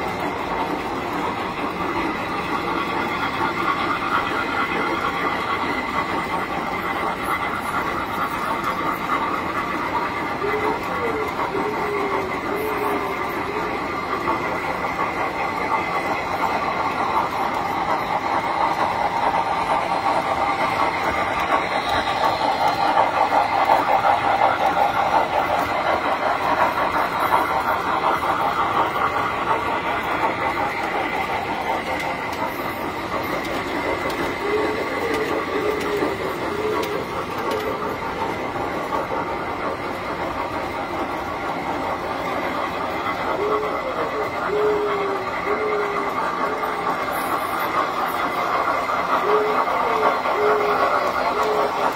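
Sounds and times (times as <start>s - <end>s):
toy train wheels clattering on rails: 0.0s - 51.9s.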